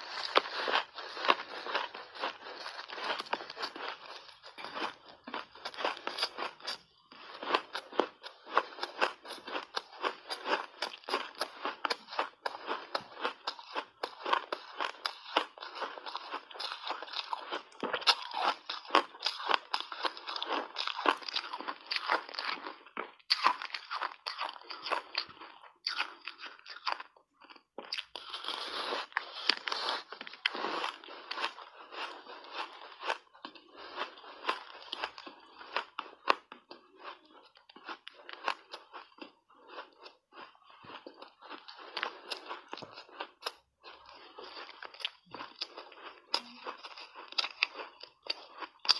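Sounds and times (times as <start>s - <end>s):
ice crunching while chewed: 0.0s - 48.9s.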